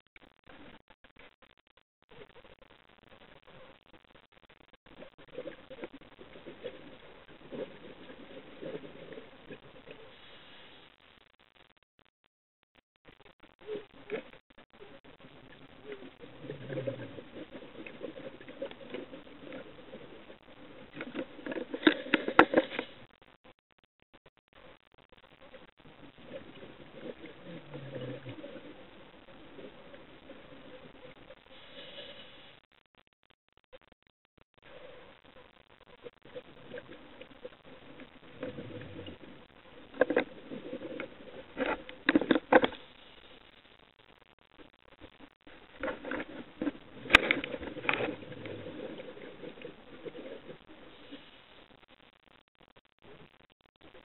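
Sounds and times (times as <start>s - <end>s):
underwater crackling and clicking: 0.0s - 54.0s.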